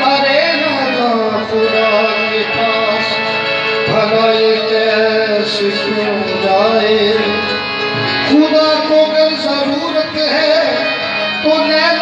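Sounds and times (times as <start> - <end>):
harmonium drone: 0.0 - 12.0
man singing long note: 0.0 - 12.0.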